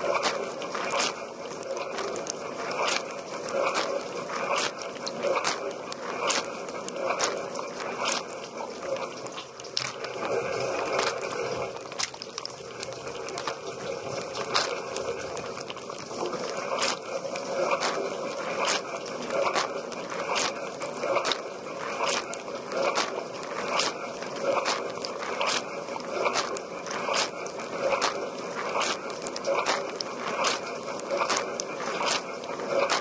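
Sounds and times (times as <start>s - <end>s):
dishwasher water jets splashing: 0.0s - 33.0s
sharp water spatter: 0.0s - 33.0s.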